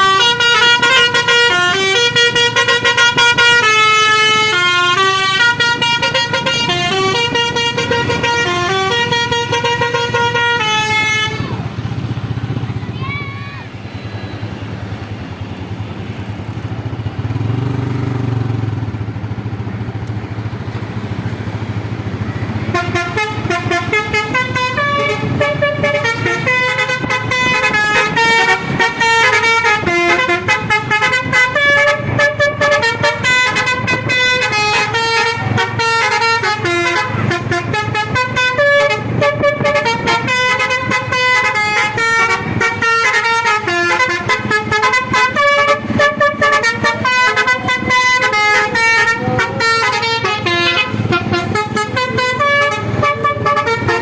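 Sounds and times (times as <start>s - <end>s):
bus horn playing melody: 0.0s - 12.0s, 22.6s - 54.0s
bus engine rumble: 0.0s - 54.0s.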